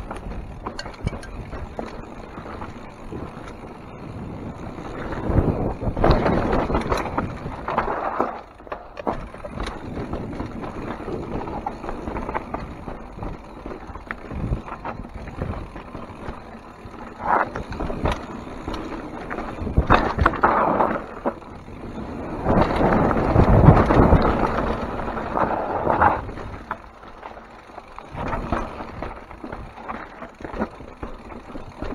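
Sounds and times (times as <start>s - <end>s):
bike knocks and rattles: 0.0s - 31.9s
bike tyres rolling over rock: 0.0s - 31.9s.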